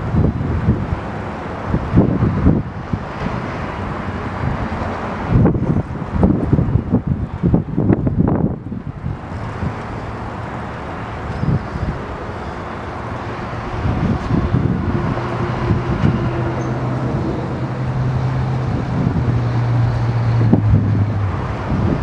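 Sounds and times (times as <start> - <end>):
airship engines humming: 0.0 - 22.0
wind on microphone: 0.0 - 22.0.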